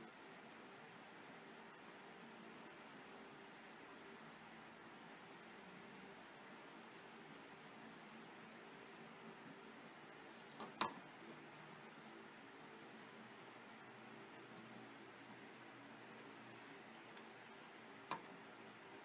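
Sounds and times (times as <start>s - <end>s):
colored pencil scratching on paper: 0.1s - 16.8s, 18.6s - 19.0s.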